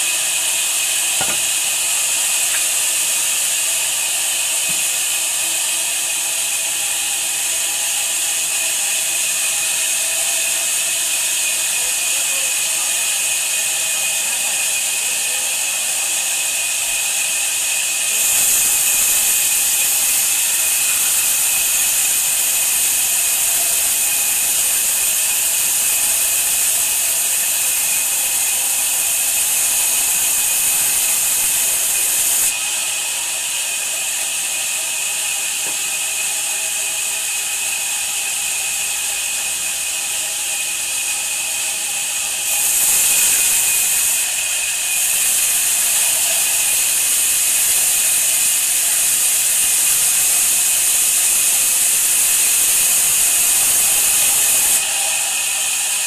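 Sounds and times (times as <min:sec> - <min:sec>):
saw blade cutting wood hiss: 0:00.0 - 0:56.0
sawmill machine hum: 0:00.0 - 0:56.0.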